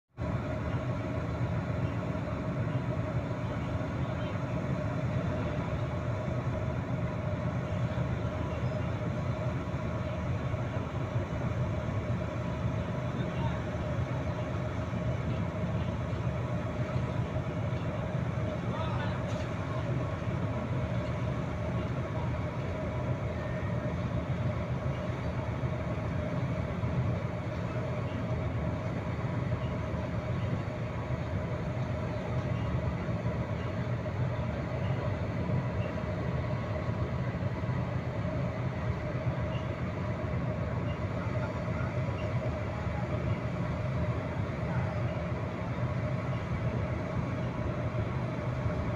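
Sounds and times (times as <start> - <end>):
crane machinery droning: 0.1 - 48.9
faint steady whine: 0.1 - 48.9.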